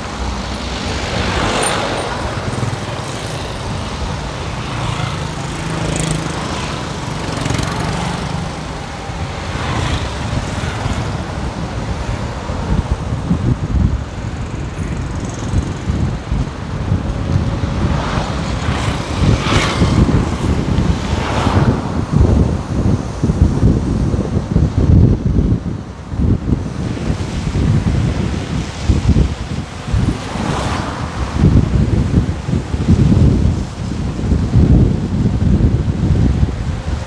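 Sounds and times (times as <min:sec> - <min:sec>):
vehicle engine and road noise: 0:00.0 - 0:37.0
wind buffeting microphone: 0:00.0 - 0:37.0.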